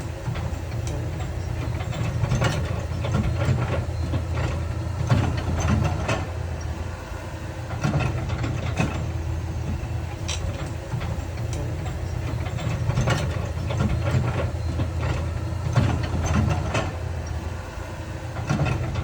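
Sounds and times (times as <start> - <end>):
diesel engine rumble: 0.0 - 19.0.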